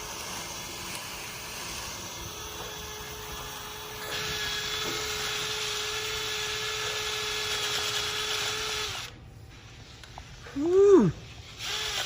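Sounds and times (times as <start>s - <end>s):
power drill spinning brush: 0.0s - 12.0s.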